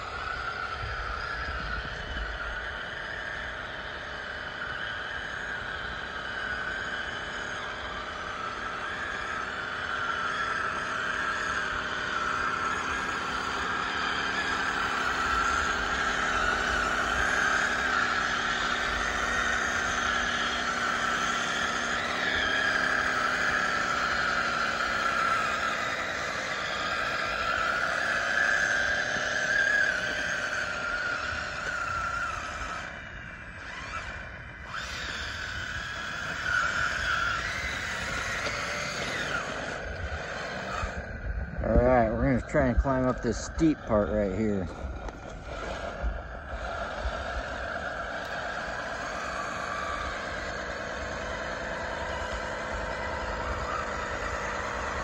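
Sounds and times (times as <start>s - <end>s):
model bulldozer motor whine: 0.0s - 55.0s.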